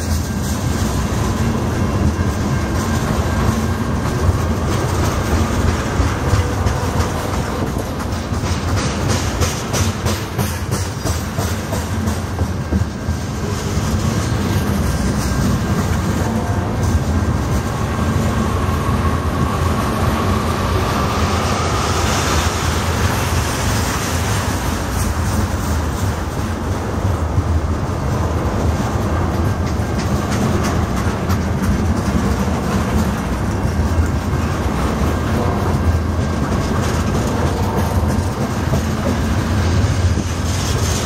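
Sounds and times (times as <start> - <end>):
clicking over rail joints: 0.0 - 18.6, 23.9 - 41.0
steel wheels rumbling on rail: 0.0 - 41.0.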